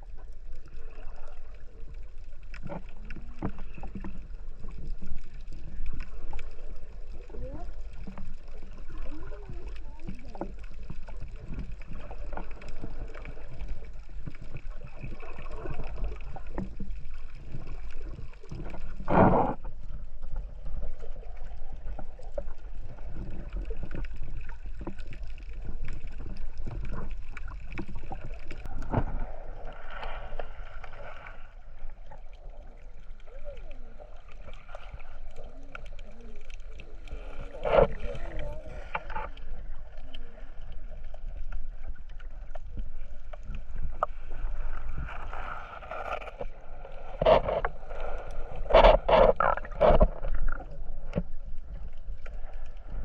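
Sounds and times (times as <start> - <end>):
water lapping and sloshing: 0.0 - 53.0.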